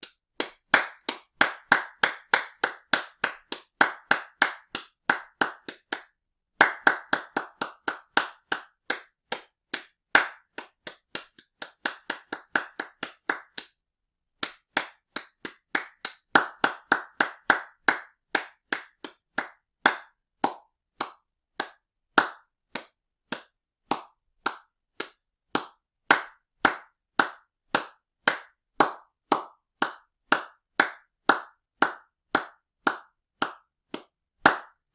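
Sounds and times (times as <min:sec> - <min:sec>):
hands clapping: 0:00.0 - 0:13.8, 0:14.4 - 0:34.9.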